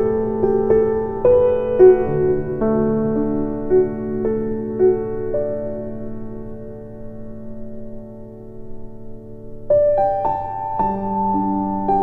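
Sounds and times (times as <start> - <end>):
slow keyboard melody: 0.0 - 12.0.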